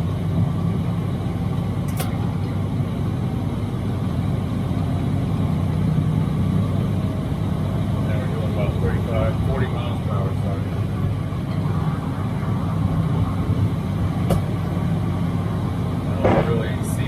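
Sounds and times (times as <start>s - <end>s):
diesel engine rumbling in cab: 0.0s - 17.0s
road noise: 0.0s - 17.0s.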